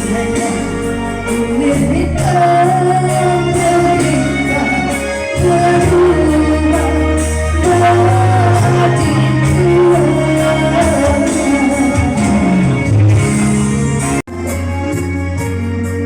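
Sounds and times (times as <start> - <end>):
steady drum beat: 0.0 - 14.7
bass notes: 0.0 - 16.0
live band playing pop song: 0.0 - 16.0.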